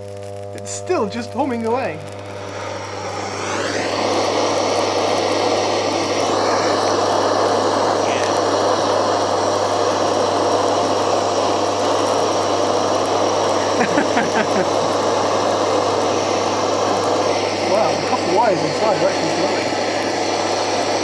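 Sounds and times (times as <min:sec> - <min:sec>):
blowtorch hissing: 0:00.0 - 0:21.0
electric motor humming: 0:00.0 - 0:21.0.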